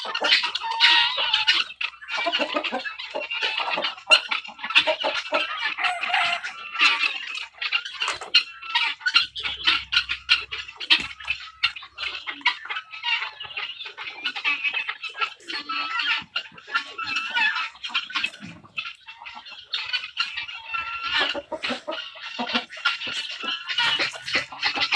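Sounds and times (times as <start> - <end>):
flock of guineafowl calling: 0.0 - 24.9.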